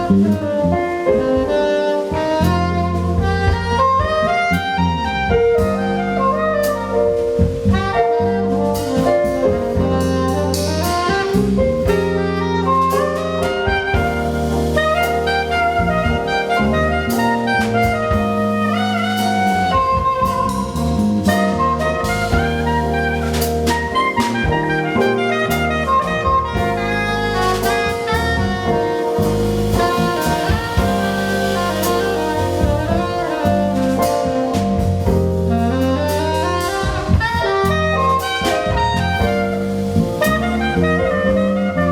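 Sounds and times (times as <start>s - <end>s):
bass line: 0.0s - 41.9s
drum kit: 0.0s - 41.9s
keyboards: 0.0s - 41.9s
soprano saxophone melody: 0.0s - 41.9s.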